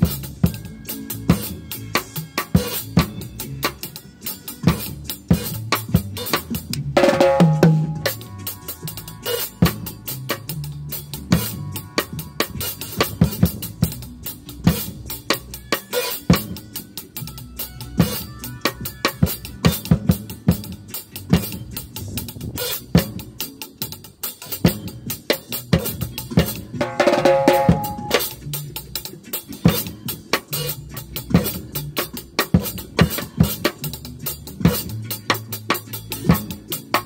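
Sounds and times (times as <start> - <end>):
drum kit playing reggae groove: 0.0 - 37.0
reggae backing track with bass: 0.0 - 37.0.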